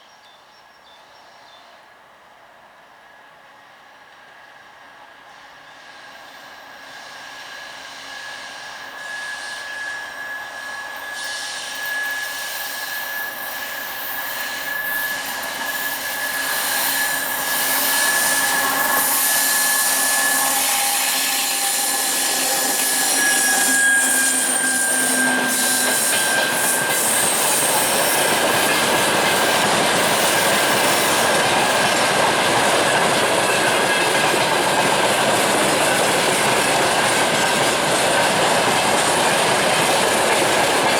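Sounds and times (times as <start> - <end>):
freight train wheels on rail: 1.0 - 40.9
high steady squeal: 5.8 - 40.9.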